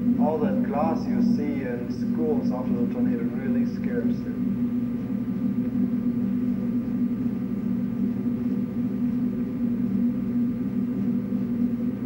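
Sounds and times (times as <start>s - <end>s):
low hum with steady tones: 0.0s - 12.0s
tape hiss: 0.0s - 12.0s.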